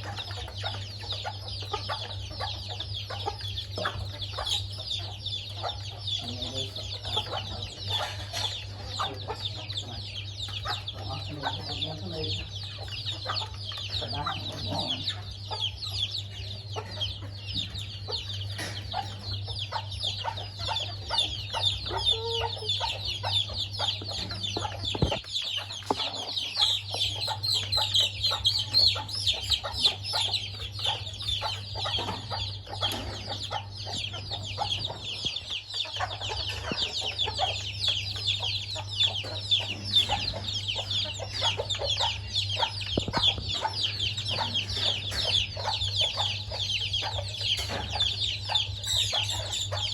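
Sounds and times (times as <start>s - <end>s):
chickens clucking and peeping: 0.0s - 49.9s.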